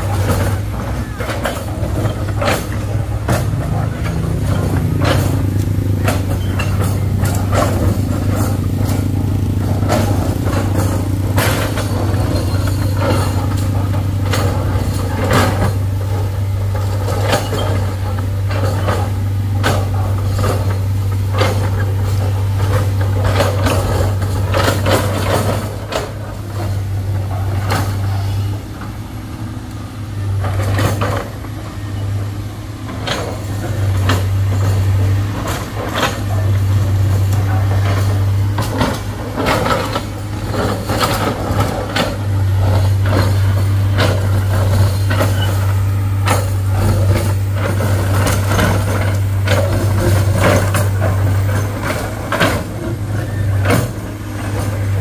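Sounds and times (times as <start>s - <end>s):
diesel engine droning: 0.0s - 55.0s
knocks and clanks: 0.0s - 55.0s.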